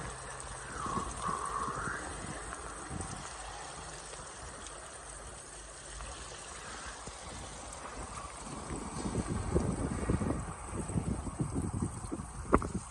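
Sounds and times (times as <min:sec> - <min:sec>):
water rushing under ice: 0:00.0 - 0:12.9.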